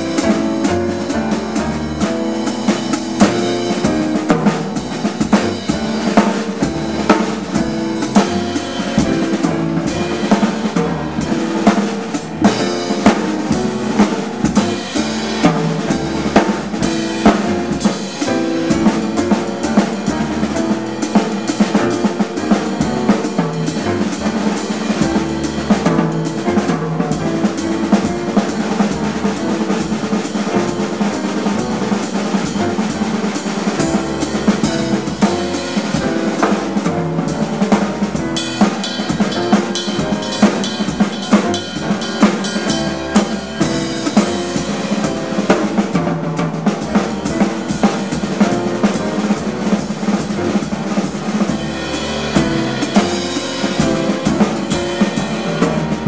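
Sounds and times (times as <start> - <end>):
drums and cymbals: 0.0 - 56.0
jazz piano trio playing: 0.0 - 56.0.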